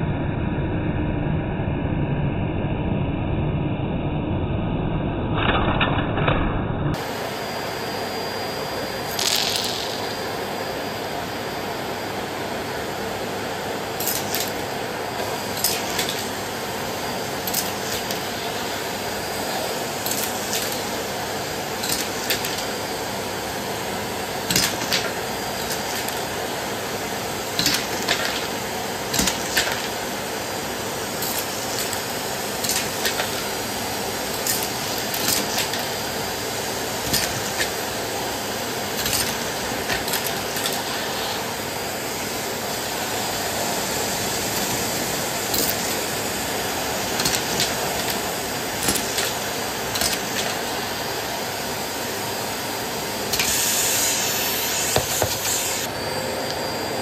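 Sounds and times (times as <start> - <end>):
vacuum cleaner running: 6.9 - 57.0.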